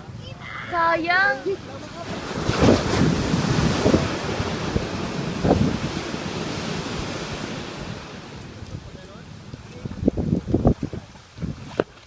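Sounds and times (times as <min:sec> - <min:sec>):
ocean wave breaking and washing in: 0:00.0 - 0:12.0
wind buffeting microphone: 0:00.0 - 0:12.0.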